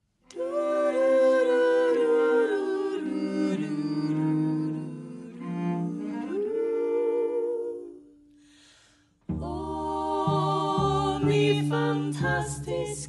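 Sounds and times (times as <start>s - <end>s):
women singing: 0.3s - 8.3s, 9.3s - 13.0s
low cello notes: 0.4s - 8.0s, 9.2s - 13.0s
string quartet playing: 0.4s - 8.0s, 9.3s - 13.0s.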